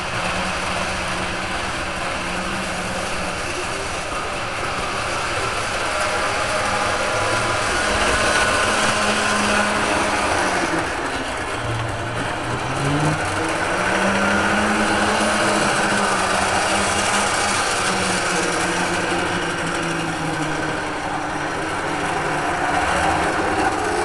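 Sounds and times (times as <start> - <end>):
electric motor hum and whir: 0.0 - 24.0.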